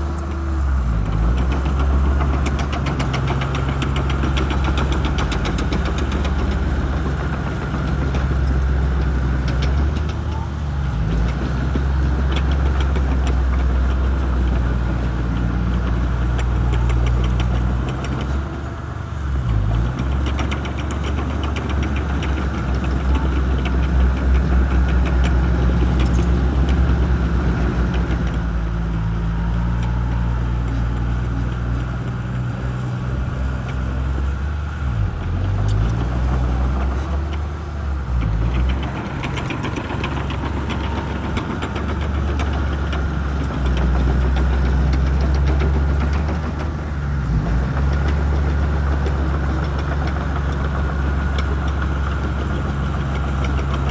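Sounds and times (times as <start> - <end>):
bulldozer diesel engine running: 0.0 - 53.9
faint rapid clatter: 1.1 - 28.5, 35.4 - 53.9.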